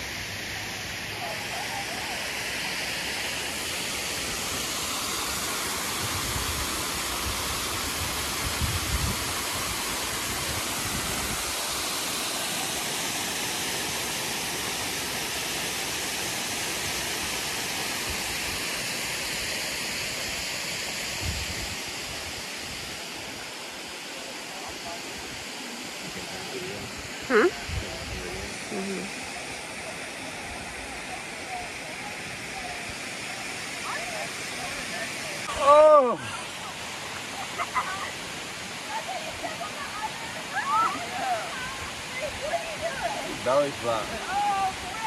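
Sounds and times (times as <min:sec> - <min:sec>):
water rushing over rocks: 0:00.0 - 0:45.0.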